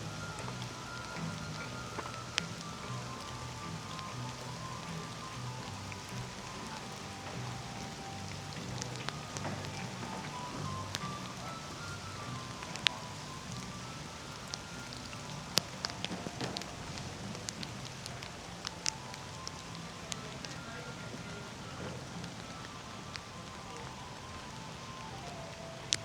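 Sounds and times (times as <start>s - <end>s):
faint slow melody music: 0.0s - 26.0s
steady rain falling: 0.0s - 26.0s.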